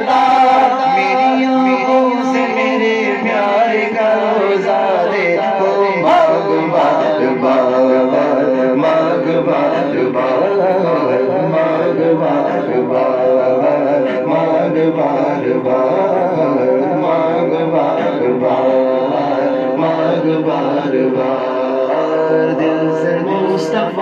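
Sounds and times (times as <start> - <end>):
men chanting through microphones: 0.0 - 24.0.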